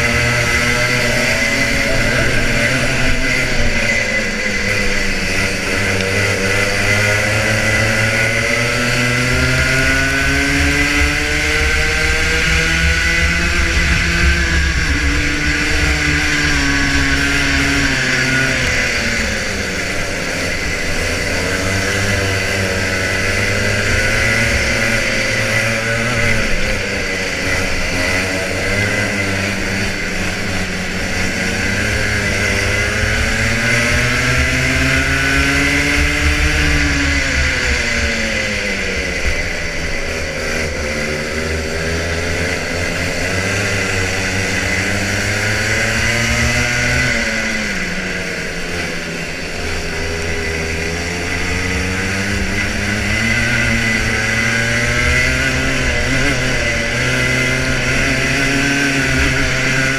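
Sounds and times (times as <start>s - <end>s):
two-stroke kart engine revving: 0.0s - 59.9s.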